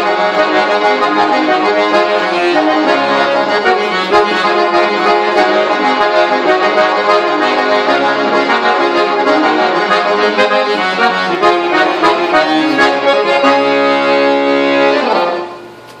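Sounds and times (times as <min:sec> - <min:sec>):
accordion playing: 0:00.0 - 0:15.8.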